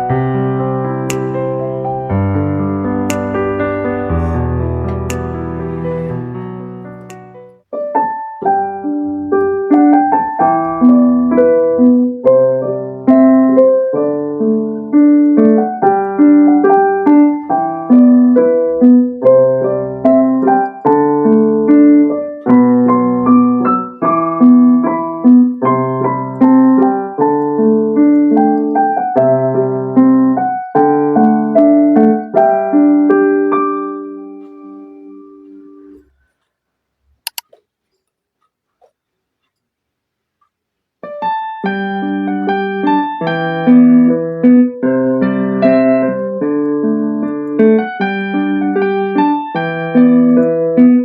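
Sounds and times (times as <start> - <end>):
digital keyboard piano piece: 0.0 - 36.1, 41.0 - 51.0.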